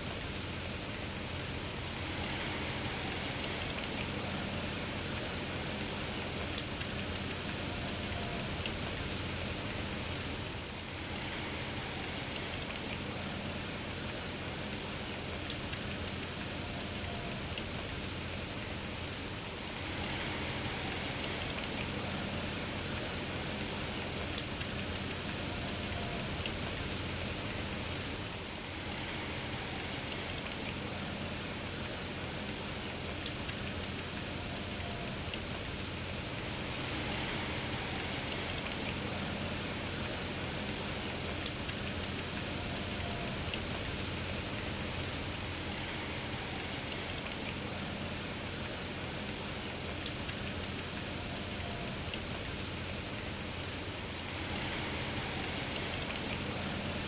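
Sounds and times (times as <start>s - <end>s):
gentle rain: 0.0s - 57.0s.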